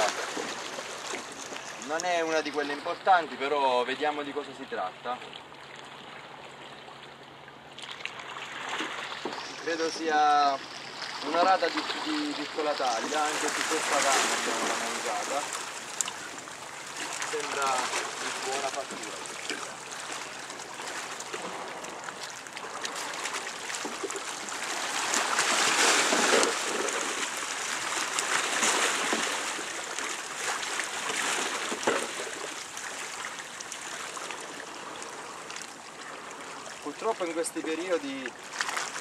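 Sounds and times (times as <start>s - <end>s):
seawater lapping against quay: 0.0s - 39.0s.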